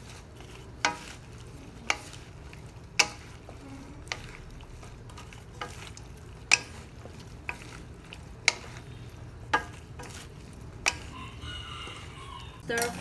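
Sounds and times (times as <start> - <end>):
frying sizzle: 0.0 - 13.0
spatula clacking against pan: 0.0 - 13.0.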